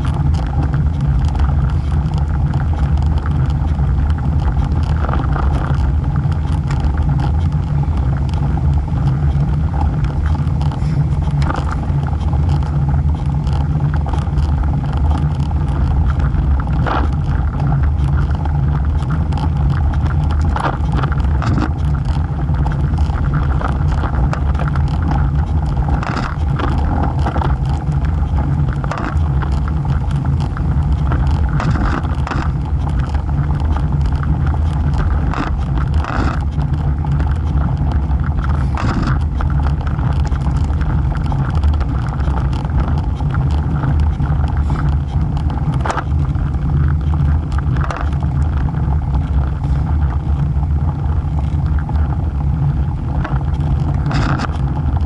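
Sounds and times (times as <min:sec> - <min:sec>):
bike clicks and rattles: 0:00.0 - 0:55.0
wind and road rumble: 0:00.0 - 0:55.0.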